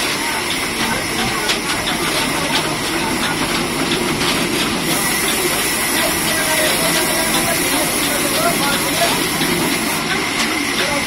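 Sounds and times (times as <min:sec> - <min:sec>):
band saw running: 0:00.0 - 0:11.0.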